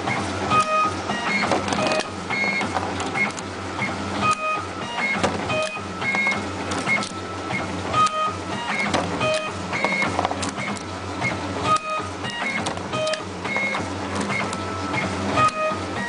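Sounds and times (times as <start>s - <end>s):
wire stripping machine whirring: 0.0s - 16.0s.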